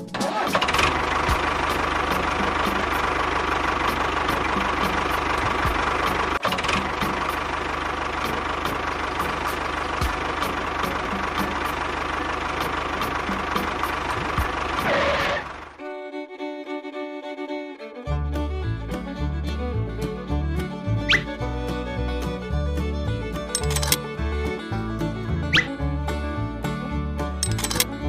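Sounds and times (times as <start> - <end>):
engine idling with knocking beat: 0.3 - 15.8, 18.3 - 28.0.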